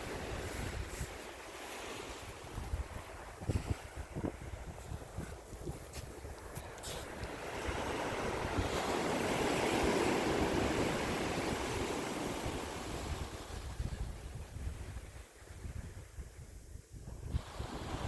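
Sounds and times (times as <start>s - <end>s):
sea waves washing ashore: 0.0s - 15.6s, 17.2s - 18.0s.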